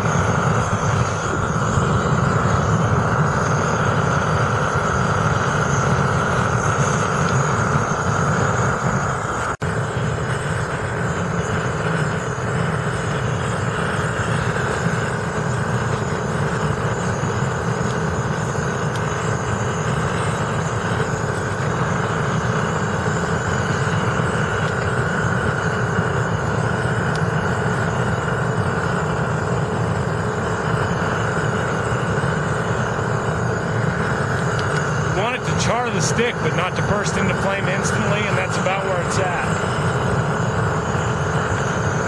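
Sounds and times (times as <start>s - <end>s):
propane torch burning: 0.0s - 42.0s.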